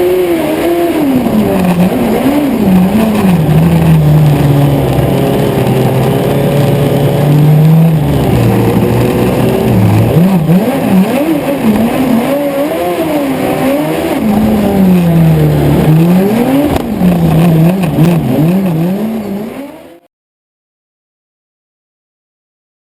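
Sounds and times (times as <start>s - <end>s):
motorcycle engine revving: 0.0s - 20.1s.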